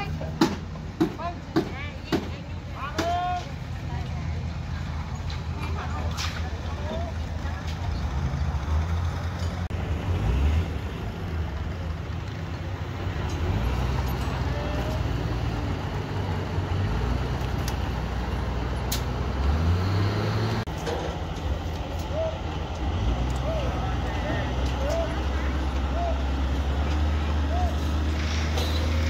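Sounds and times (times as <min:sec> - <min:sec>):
engine running low rumble: 0:00.0 - 0:29.0.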